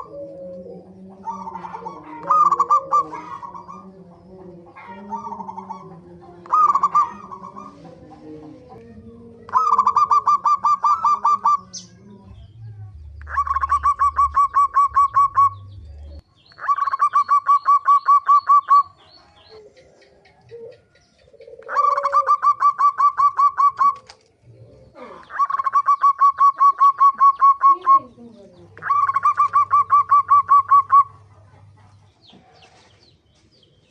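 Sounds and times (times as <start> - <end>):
dove calling: 0.0 - 33.9.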